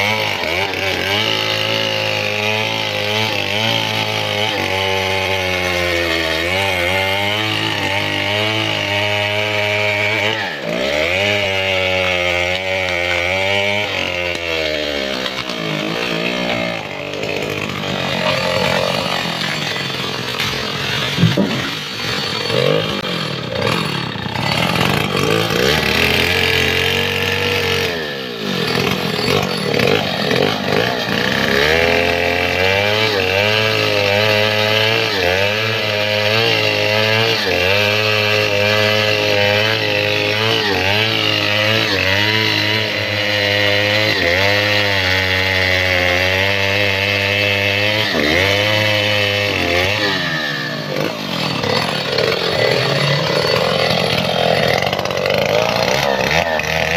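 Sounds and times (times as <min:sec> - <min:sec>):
chainsaw cutting log: 0:00.0 - 0:56.9.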